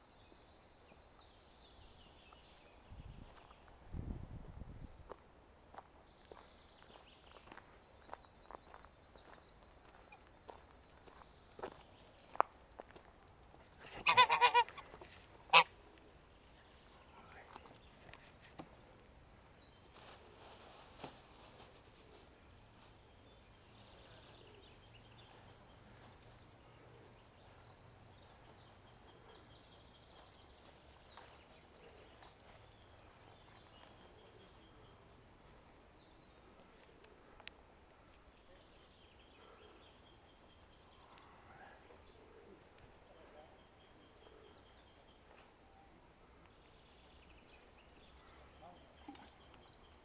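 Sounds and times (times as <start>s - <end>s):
small birds chirping faintly: 0.0s - 3.9s, 5.0s - 50.0s.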